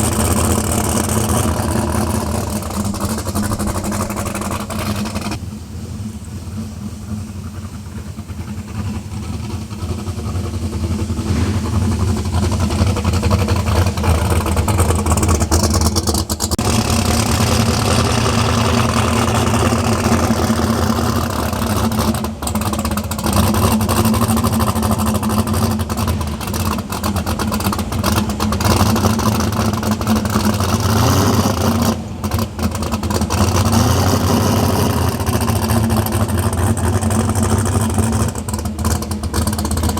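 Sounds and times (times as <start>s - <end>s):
drag car engine running: 0.0s - 39.9s
engine crackles: 0.0s - 39.9s.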